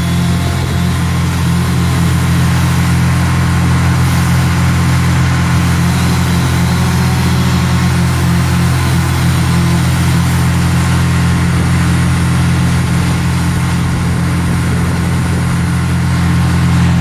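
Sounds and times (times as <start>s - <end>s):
large engine running: 0.0s - 17.0s.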